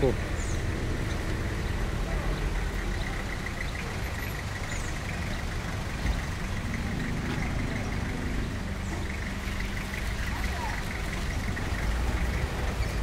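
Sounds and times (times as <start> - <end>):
street noise: 0.0 - 13.0
vehicle engine idling: 0.0 - 13.0.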